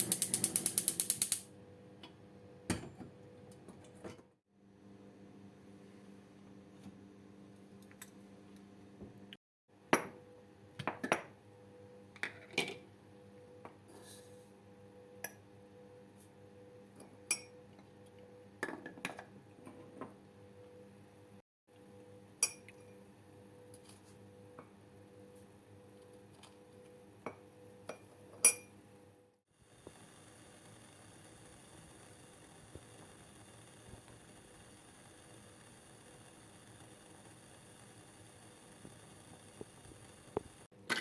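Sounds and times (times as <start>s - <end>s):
low appliance hum: 0.0s - 41.0s.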